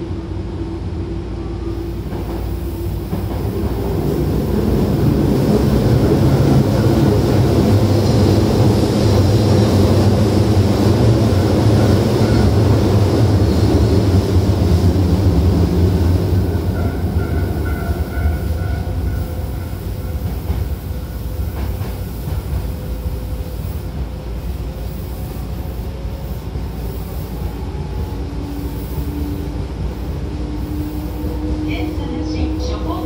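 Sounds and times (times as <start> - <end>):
subway car wheels rumbling: 0.0 - 33.0.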